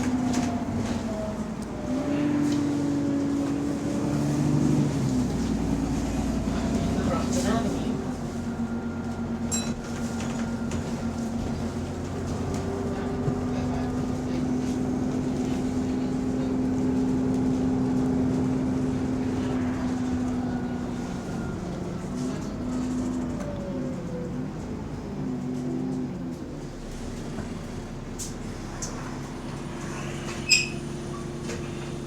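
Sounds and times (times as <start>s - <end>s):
bus engine drone: 0.0s - 32.0s.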